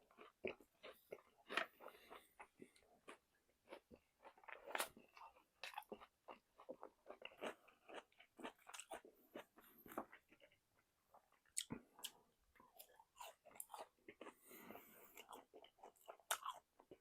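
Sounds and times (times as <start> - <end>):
person chewing crispy food: 0.0 - 17.0.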